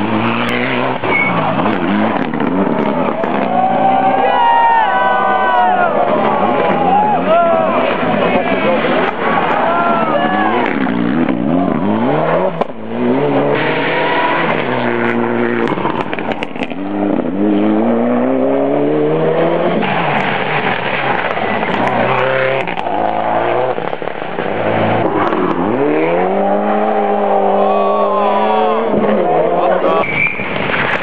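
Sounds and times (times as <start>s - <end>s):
rally car engine at full throttle: 0.0s - 31.0s.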